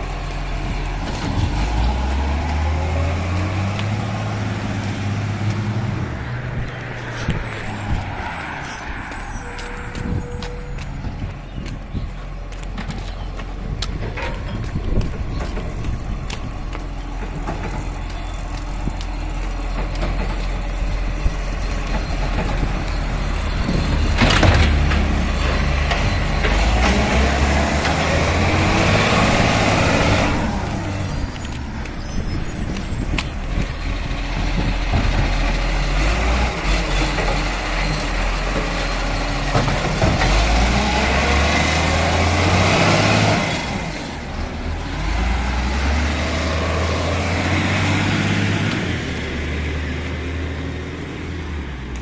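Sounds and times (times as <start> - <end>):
garbage truck diesel engine: 0.0 - 52.0.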